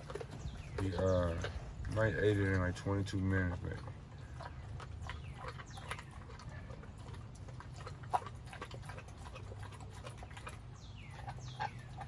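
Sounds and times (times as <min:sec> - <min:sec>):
dog chewing and licking: 0:00.0 - 0:12.0.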